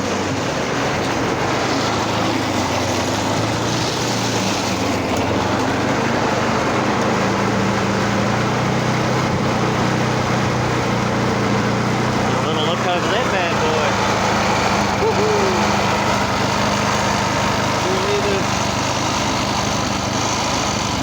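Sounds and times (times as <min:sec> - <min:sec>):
small lawnmower engine running: 0:00.0 - 0:21.0.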